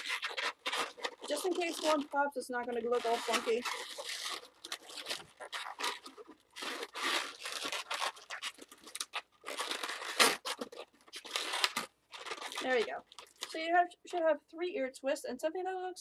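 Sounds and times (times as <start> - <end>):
latex balloon rubbing: 0.0 - 13.6.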